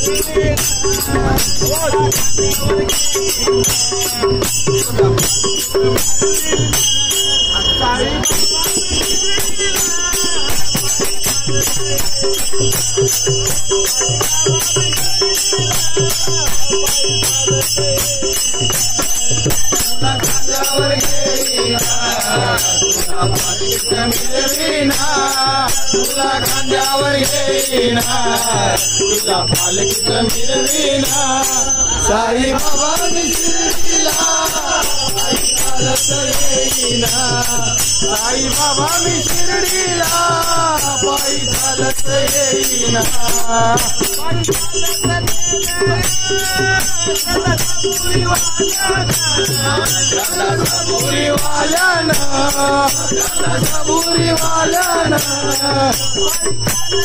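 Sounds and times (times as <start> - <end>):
brass hand cymbals ringing: 0.0 - 57.0
men singing devotional song: 0.0 - 57.0.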